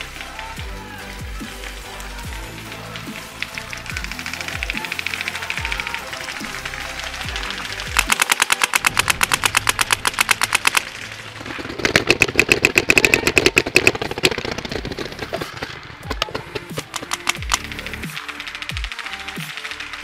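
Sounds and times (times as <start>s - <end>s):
paintball marker firing: 1.3s - 20.0s.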